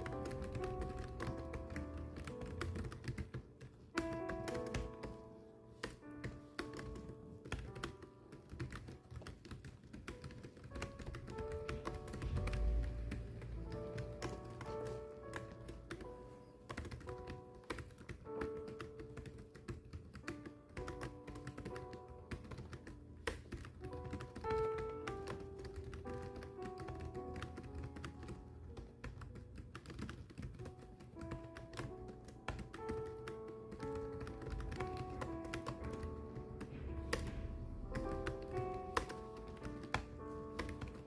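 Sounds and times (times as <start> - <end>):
keyboard typing clicks: 0.0 - 5.2, 5.8 - 41.0
soft slow background music: 0.0 - 41.0.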